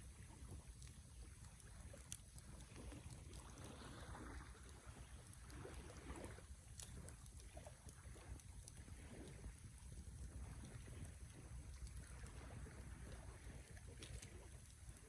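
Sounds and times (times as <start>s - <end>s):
campfire rumble: 0.0s - 15.0s
fire crackles and pops: 0.1s - 15.0s.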